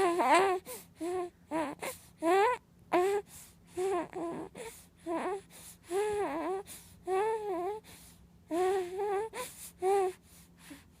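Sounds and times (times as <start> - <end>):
baby whimpering: 0.0 - 7.9, 8.5 - 11.0.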